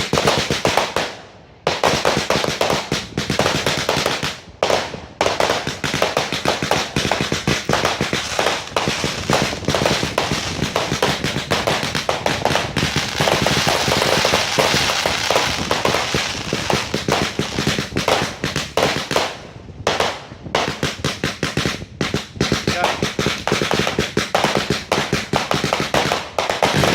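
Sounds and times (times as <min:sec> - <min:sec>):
fireworks bangs and crackling: 0:00.0 - 0:26.9.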